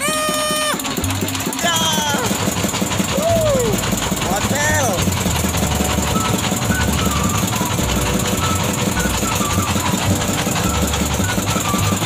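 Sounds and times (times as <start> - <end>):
boat engine knocking: 0.0 - 12.0.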